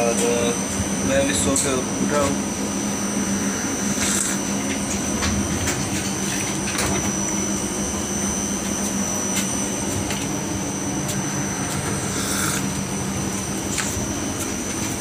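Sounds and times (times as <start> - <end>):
train coach rumble and hum: 0.0 - 15.0.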